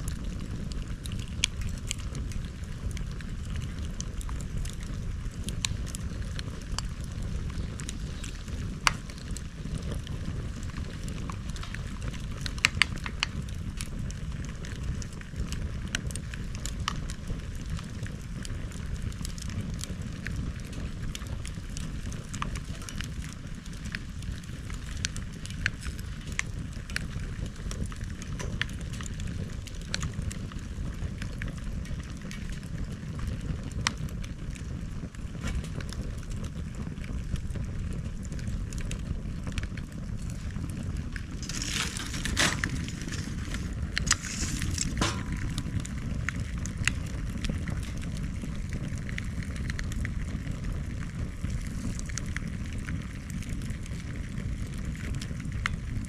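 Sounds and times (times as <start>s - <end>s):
bonfire rumble and crackles: 0.0s - 56.0s
hissing crackle bursts: 0.0s - 56.0s.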